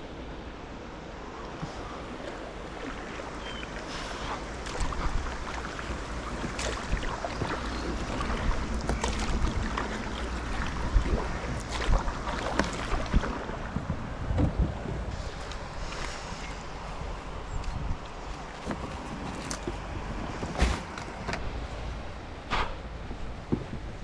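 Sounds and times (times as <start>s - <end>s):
moving water: 0.0s - 24.0s
wind rumbling on microphone: 1.2s - 24.0s
paddles splashing in water: 1.3s - 21.6s.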